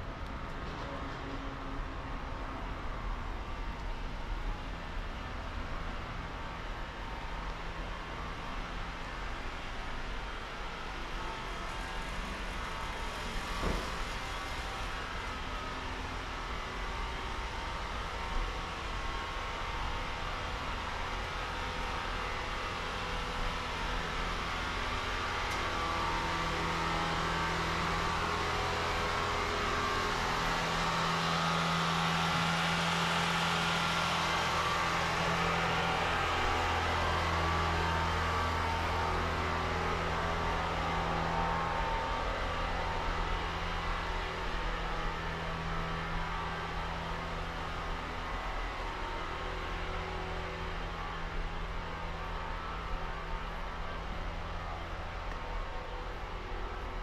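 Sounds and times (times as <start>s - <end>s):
low motor hum: 0.0s - 57.0s.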